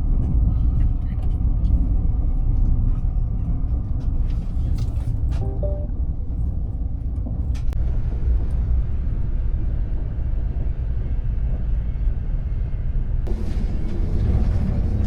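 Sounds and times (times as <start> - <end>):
train rumbling from inside carriage: 0.0 - 15.0.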